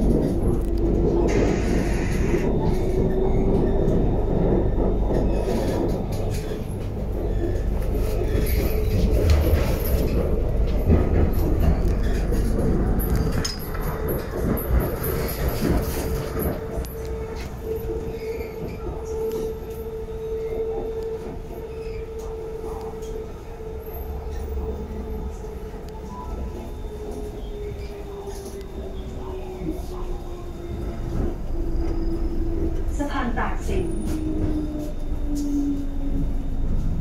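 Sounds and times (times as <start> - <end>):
humming tone: 0.0 - 37.0
train wheels rumbling: 0.0 - 37.0.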